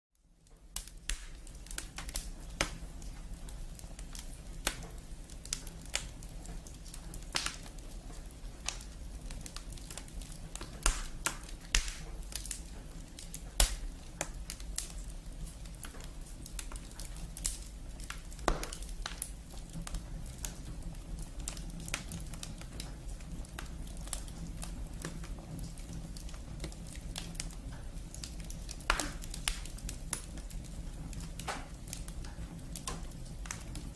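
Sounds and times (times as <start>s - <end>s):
firewood crackling and popping: 0.2s - 33.9s.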